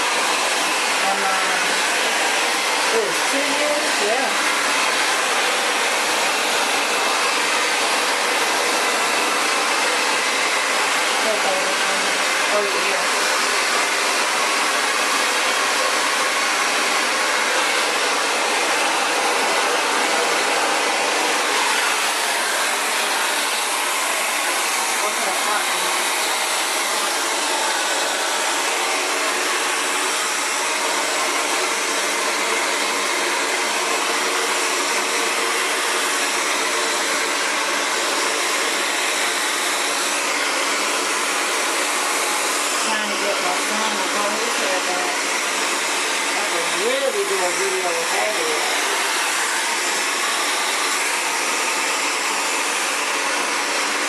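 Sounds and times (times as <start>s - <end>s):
hair dryer blowing air: 0.0s - 54.0s.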